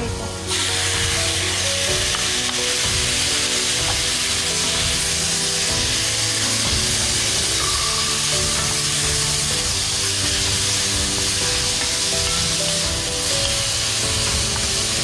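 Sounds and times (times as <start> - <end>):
background music: 0.0 - 15.0
vegetables sizzling in hot oil: 0.2 - 15.0.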